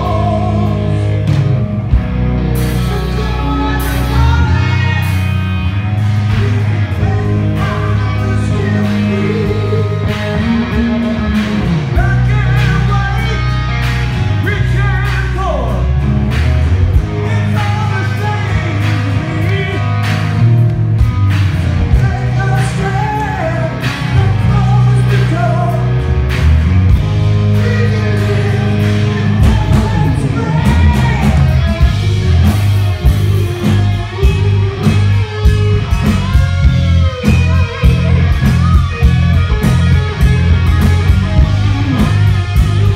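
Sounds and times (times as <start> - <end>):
person singing: 0.0 - 1.4, 2.6 - 5.4, 6.1 - 16.0, 17.1 - 20.4, 21.8 - 26.0, 27.4 - 40.4
hard rock band playing: 0.0 - 42.9
lead guitar: 0.0 - 42.9.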